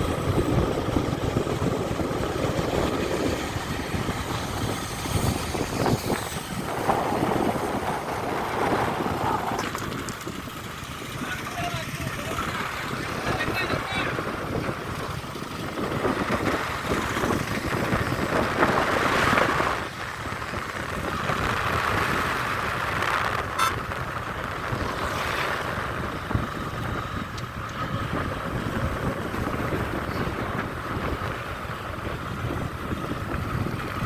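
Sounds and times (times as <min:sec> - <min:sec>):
vehicle engines rumbling: 0:00.0 - 0:34.0.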